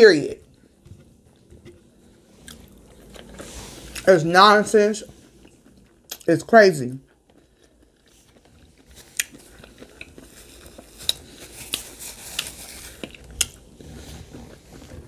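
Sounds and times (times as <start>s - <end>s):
chewing and biting food: 0.3s - 4.1s, 5.0s - 6.3s, 6.9s - 15.0s.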